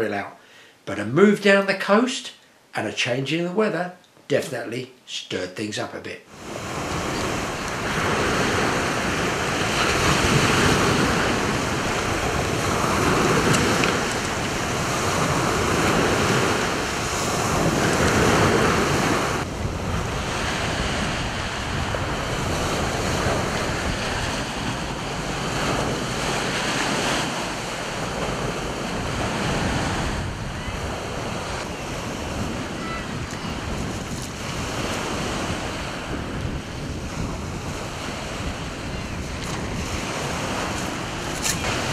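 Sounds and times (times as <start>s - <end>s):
rough surf: 6.3s - 41.9s
waves breaking on shingle beach: 6.3s - 41.9s
wind buffeting microphone: 6.5s - 41.9s.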